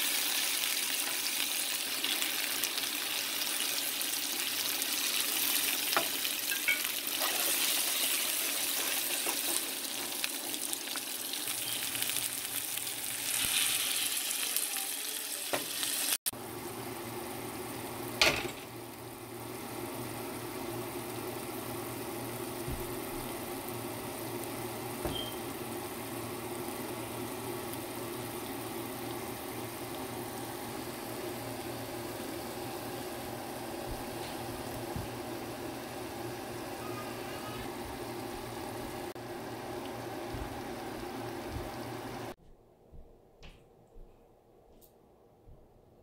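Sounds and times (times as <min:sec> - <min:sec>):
steady kitchen hum and hiss: 0:00.0 - 0:46.0.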